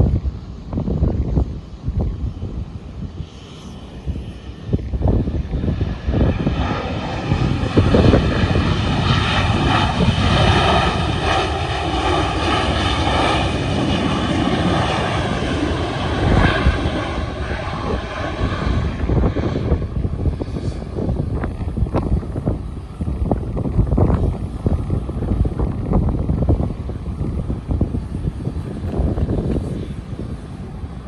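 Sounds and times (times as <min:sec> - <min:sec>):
jet engines roaring: 0:00.0 - 0:31.0
wind rumble on microphone: 0:00.0 - 0:31.0.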